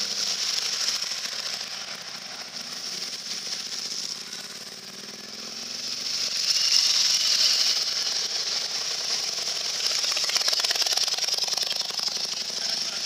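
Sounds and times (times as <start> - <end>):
motorcycle engine exhaust: 0.0 - 13.0.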